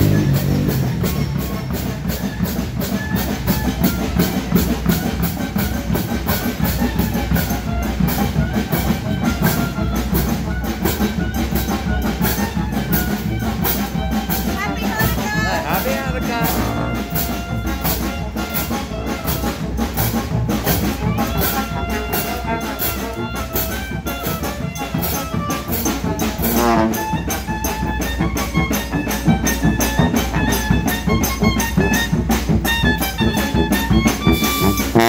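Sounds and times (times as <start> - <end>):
brass band playing: 0.0 - 35.0.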